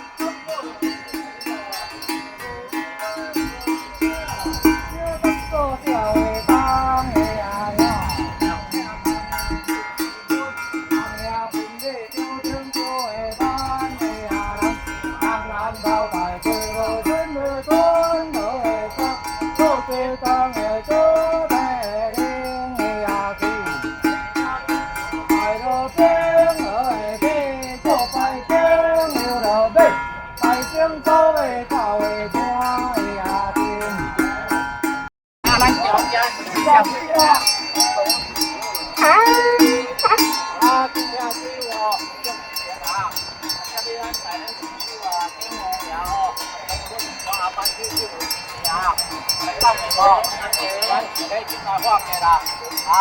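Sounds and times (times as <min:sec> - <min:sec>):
high wavering melody: 0:00.0 - 0:53.0
small bells jingling: 0:00.0 - 0:53.0.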